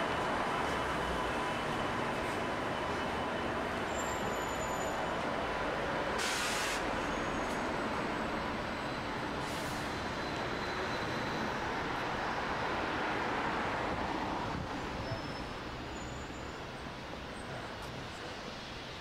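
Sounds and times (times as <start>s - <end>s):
bus driving past: 0.0s - 19.0s
street traffic hum: 0.0s - 19.0s.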